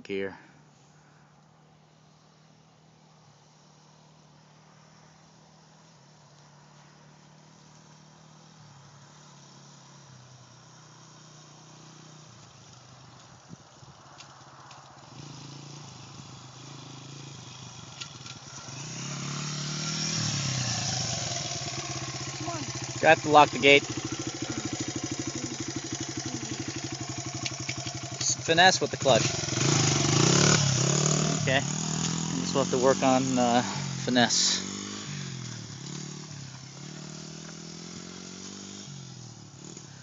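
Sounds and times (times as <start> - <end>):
dirt bike engine running: 1.9 - 40.0.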